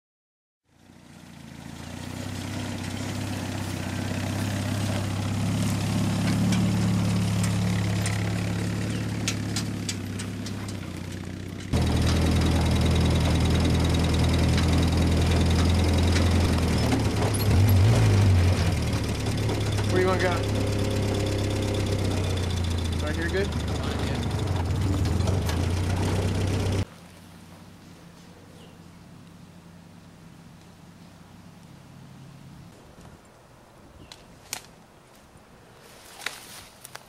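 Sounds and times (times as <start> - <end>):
jeep engine running: 0.7 - 32.9.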